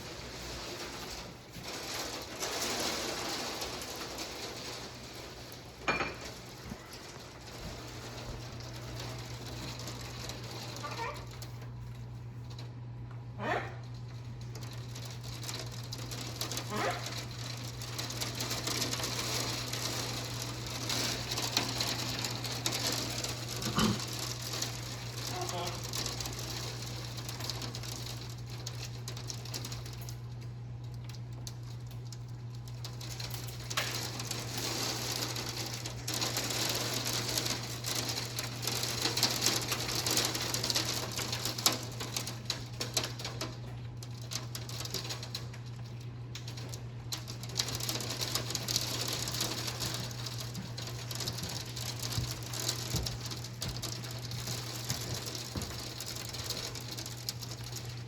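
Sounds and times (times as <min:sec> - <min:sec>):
hail pattering: 0:00.0 - 0:58.0.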